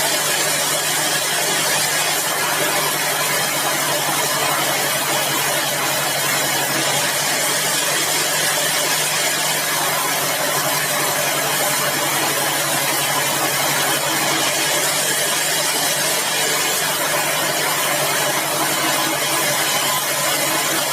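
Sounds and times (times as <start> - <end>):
sawmill machinery humming: 0.0 - 20.9.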